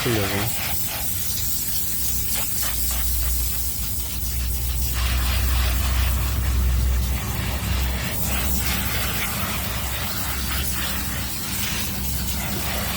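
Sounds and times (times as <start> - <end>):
hand scrubbing strokes: 0.0 - 12.9
spraying water hiss: 0.0 - 12.9.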